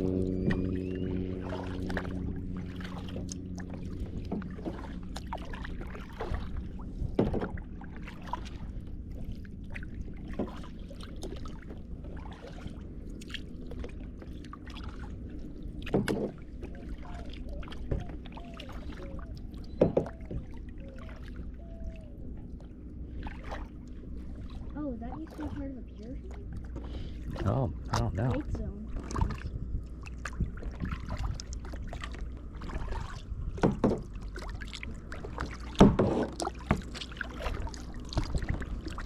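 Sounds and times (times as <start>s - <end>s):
water swishing with paddle strokes: 0.0s - 39.0s.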